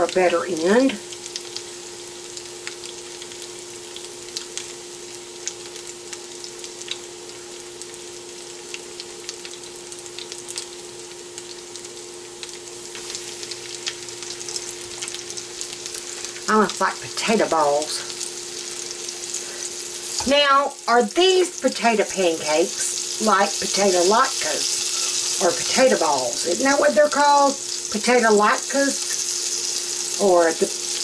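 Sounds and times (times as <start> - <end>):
oil sizzling in a skillet: 0.0 - 31.0
steady hum: 0.0 - 31.0.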